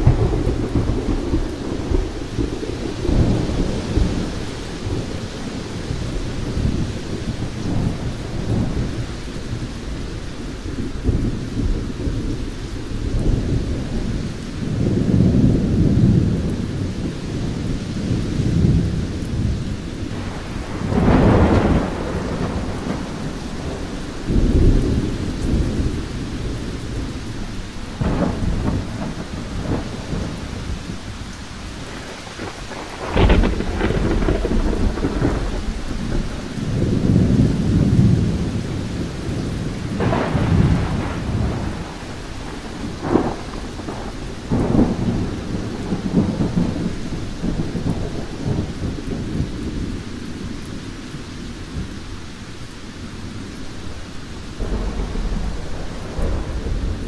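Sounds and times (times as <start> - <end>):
thunder rolling and cracking: 0.0 - 50.8, 53.8 - 57.0
rain falling: 0.0 - 57.0.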